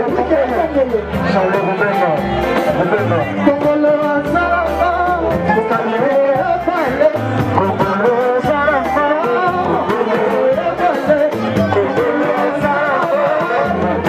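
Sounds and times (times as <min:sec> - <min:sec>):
person singing: 0:00.0 - 0:14.0
repeated bass line: 0:00.0 - 0:14.0.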